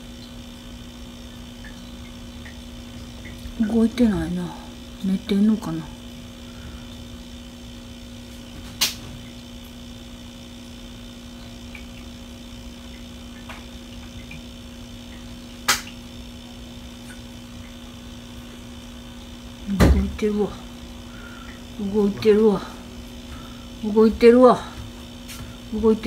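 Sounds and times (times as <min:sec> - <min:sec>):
low steady hum with whine: 0:00.0 - 0:26.0.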